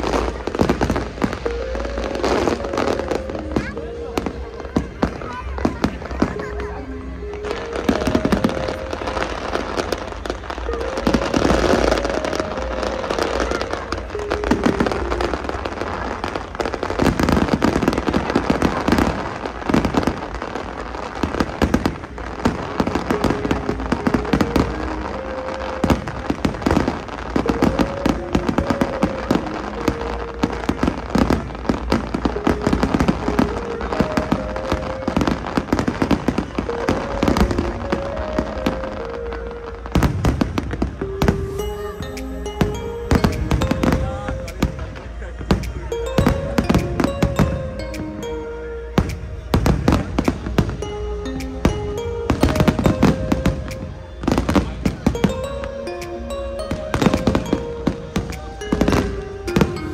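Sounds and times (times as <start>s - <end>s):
fireworks bangs and crackling: 0.0s - 48.3s, 49.0s - 59.9s.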